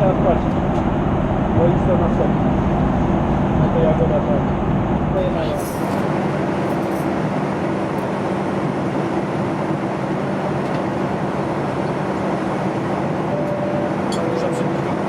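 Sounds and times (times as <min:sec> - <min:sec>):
airliner cabin engine and airflow rush: 0:00.0 - 0:15.0.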